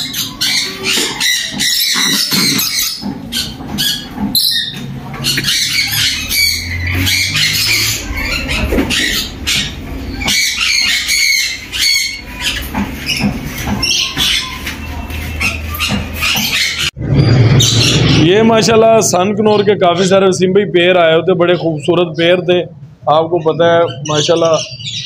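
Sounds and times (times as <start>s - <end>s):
parrots squawking: 0.0s - 20.3s, 23.3s - 25.0s.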